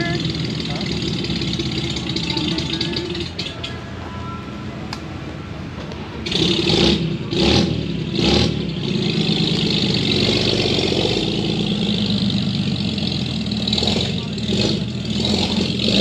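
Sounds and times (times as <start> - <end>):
car engine revving: 0.0 - 3.6, 6.2 - 16.0.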